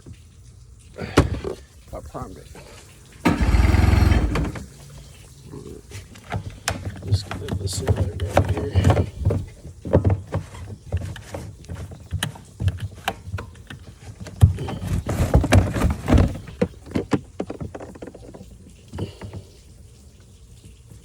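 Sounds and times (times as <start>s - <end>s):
outboard motor knocks and clatter: 1.1s - 2.3s, 3.2s - 5.3s, 5.9s - 19.7s.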